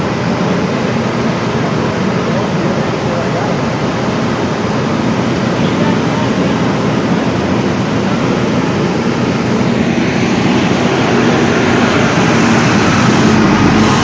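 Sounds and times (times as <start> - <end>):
mechanical rumble with hiss: 0.4 - 14.0.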